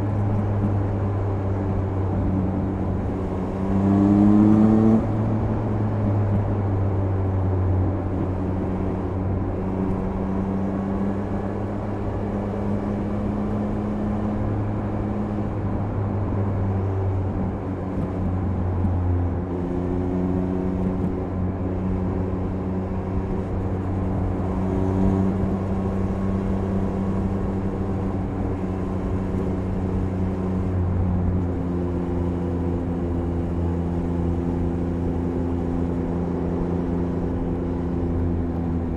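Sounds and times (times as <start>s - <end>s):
road noise: 0.0s - 38.9s.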